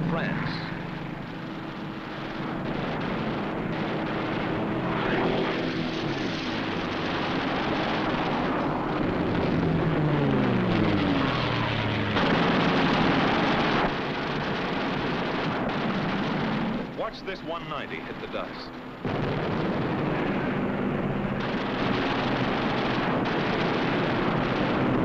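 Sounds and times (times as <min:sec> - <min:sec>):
noisy rush: 0:00.0 - 0:25.0
propeller aircraft engine droning: 0:00.0 - 0:25.0.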